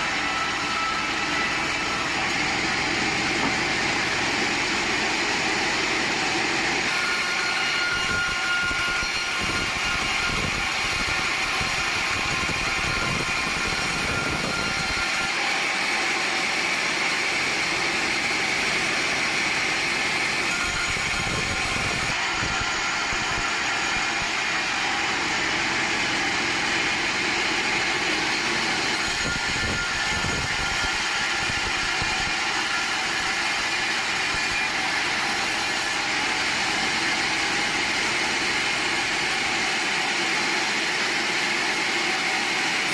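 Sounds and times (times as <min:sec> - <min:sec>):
log saw machinery running: 0:00.0 - 0:42.9.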